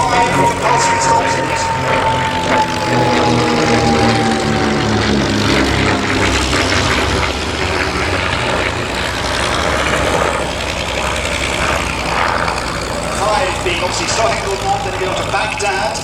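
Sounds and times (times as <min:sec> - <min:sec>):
propeller aircraft flying past: 0:00.0 - 0:16.0.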